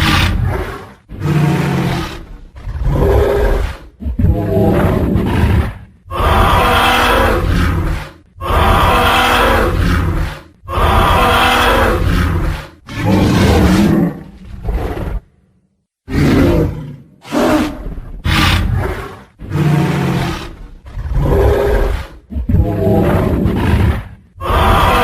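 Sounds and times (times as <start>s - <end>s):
deep roars and growls: 0.0s - 15.4s, 16.1s - 25.0s.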